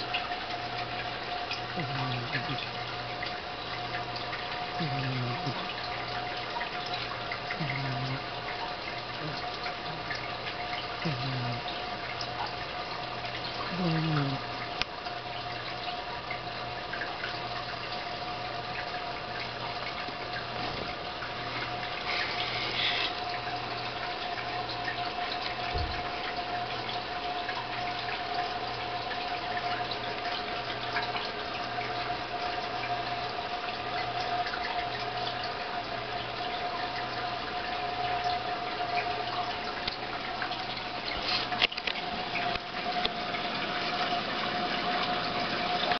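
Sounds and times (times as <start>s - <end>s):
water filter running: 0.0s - 45.9s.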